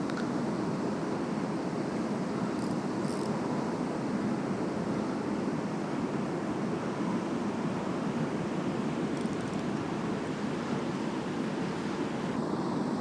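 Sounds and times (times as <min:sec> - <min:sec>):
fast river water rushing: 0:00.4 - 0:13.0.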